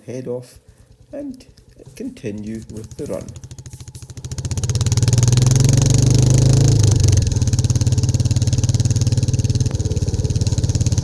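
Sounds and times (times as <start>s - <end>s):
motorcycle engine pulling away: 0.0s - 11.0s.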